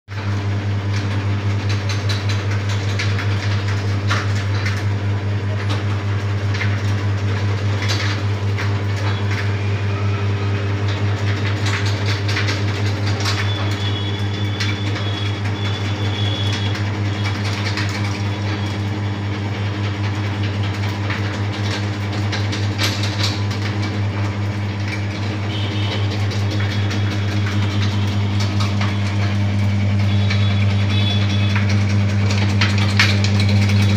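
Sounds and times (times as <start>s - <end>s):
motor humming: 4.8s - 33.9s.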